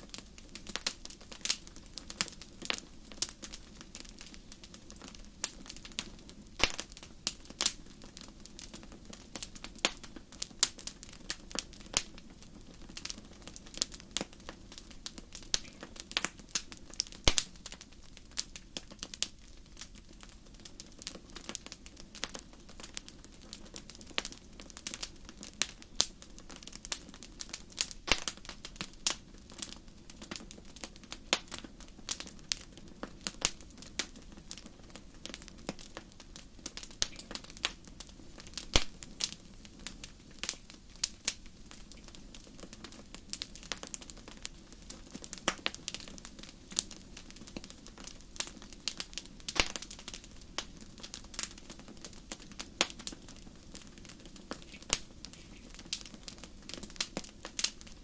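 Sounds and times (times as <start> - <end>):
fire crackling and popping: 0.0 - 58.0
low hiss of burning: 0.0 - 58.0.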